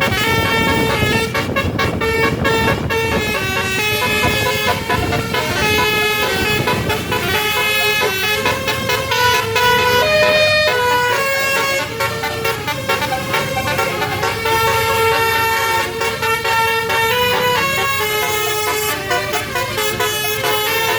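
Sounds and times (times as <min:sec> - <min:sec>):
bus engine rumble: 0:00.0 - 0:20.9
multi-tone bus air horn melody: 0:00.0 - 0:20.9.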